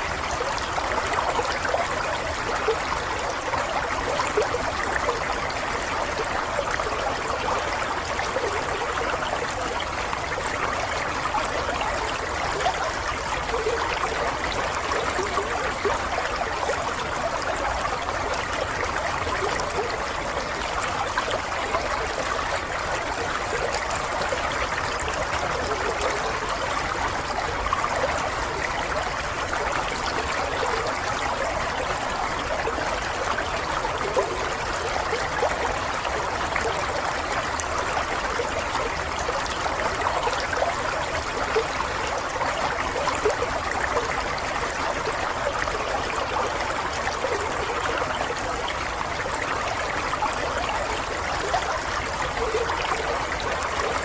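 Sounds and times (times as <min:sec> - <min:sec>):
stream babbling: 0:00.0 - 0:54.0.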